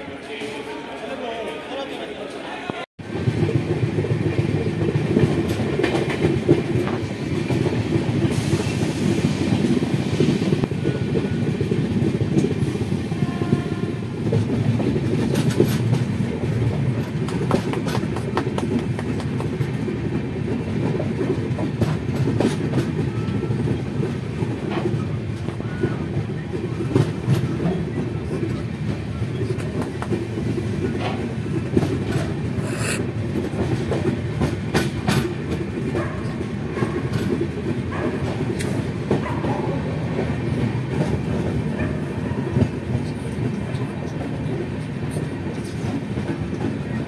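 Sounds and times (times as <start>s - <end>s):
train wheels rumbling on track: 3.0s - 47.0s.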